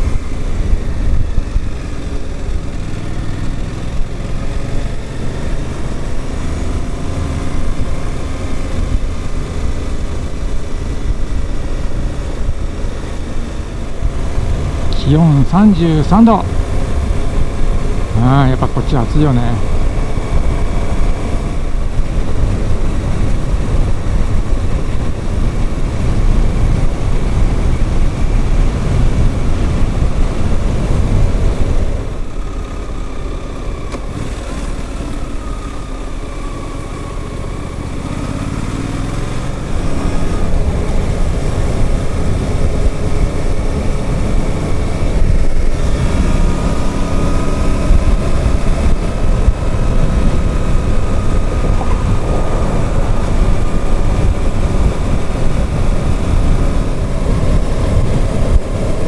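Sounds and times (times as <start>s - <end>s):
wind noise on microphone: 0.0s - 2.8s, 7.5s - 33.2s, 36.8s - 59.0s
motorcycle engine: 0.0s - 59.0s.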